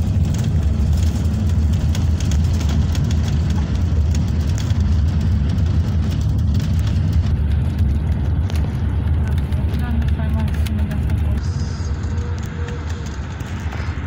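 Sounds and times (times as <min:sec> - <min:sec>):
vehicle engine and tyres rumble: 0:00.0 - 0:14.0.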